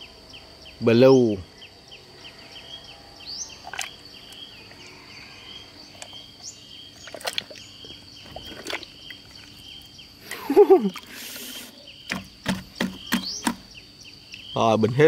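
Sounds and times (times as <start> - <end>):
birds chirping: 0.0 - 15.0
high insect drone: 0.0 - 15.0.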